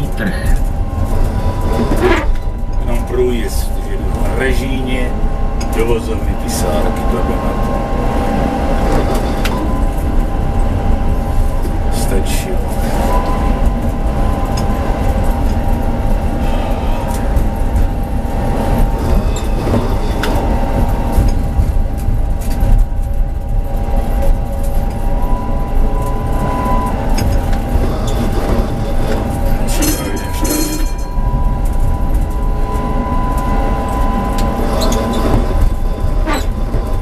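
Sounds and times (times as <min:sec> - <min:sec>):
steady whine: 0:00.0 - 0:37.0
tram wheels rumbling on rail: 0:00.0 - 0:37.0.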